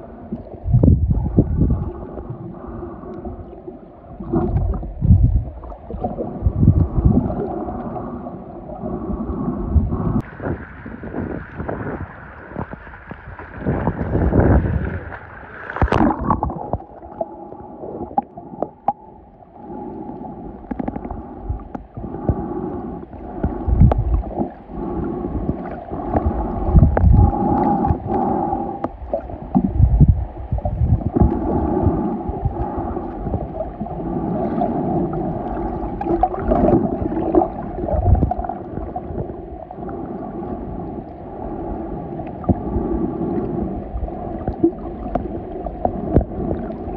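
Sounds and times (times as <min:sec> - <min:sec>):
faint steady hum: 0:00.0 - 0:46.9
underwater gurgling water: 0:00.0 - 0:46.9.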